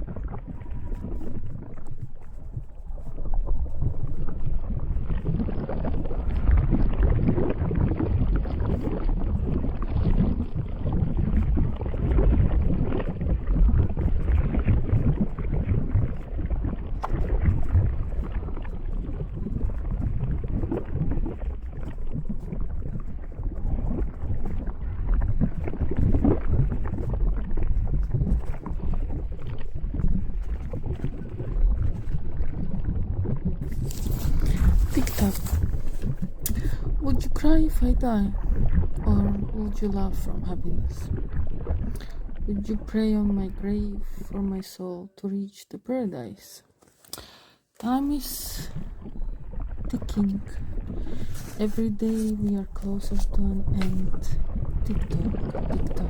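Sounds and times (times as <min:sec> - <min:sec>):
lava crackles: 0:00.0 - 0:44.6, 0:47.2 - 0:56.0
lava flowing rumble: 0:00.0 - 0:44.6, 0:47.2 - 0:56.0.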